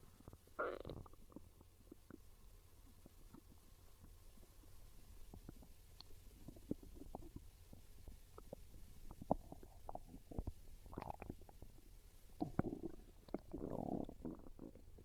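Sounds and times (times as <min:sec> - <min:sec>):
stomach growling and gurgling: 0:00.0 - 0:15.0.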